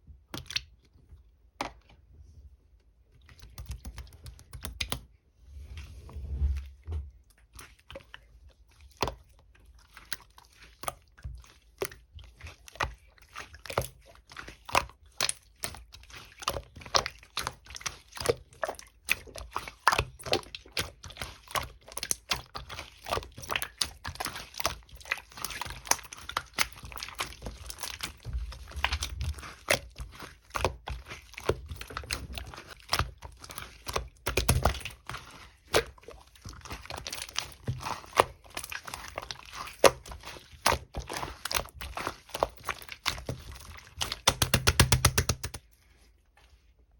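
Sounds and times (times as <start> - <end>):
slime squished by hand: 6.2 - 45.8.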